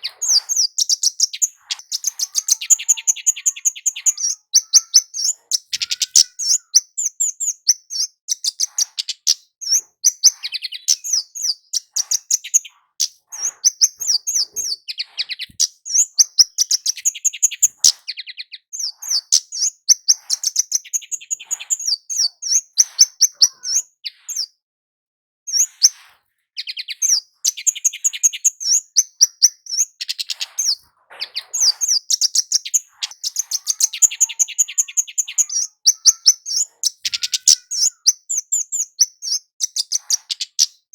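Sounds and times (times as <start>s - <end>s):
bird calling high thin chips and trills: 0.0s - 24.5s, 25.5s - 40.9s.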